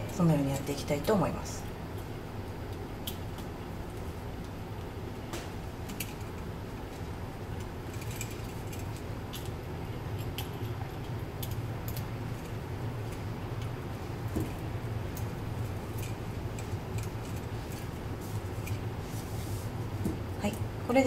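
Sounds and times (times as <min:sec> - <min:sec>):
steady low hum: 0:00.0 - 0:21.0
wires clicking and rustling: 0:00.0 - 0:21.0.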